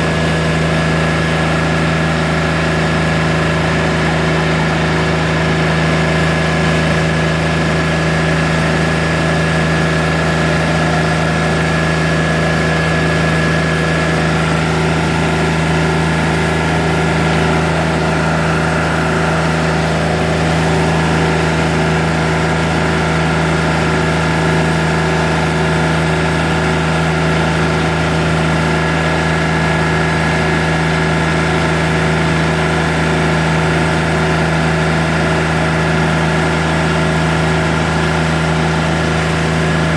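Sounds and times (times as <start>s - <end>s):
band sawmill engine drone: 0.0s - 39.9s.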